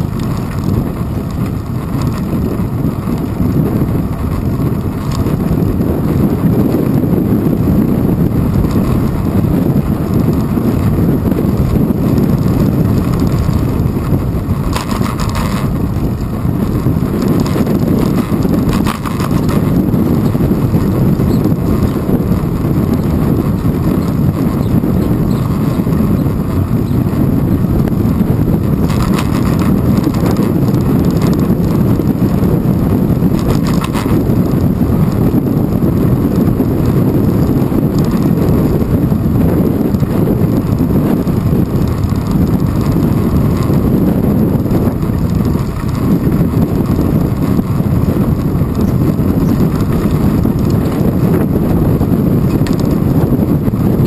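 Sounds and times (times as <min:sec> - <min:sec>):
bicycle tyre road rumble: 0:00.0 - 0:54.0
bike rattles: 0:00.0 - 0:54.0
wind buffeting microphone: 0:00.0 - 0:54.0.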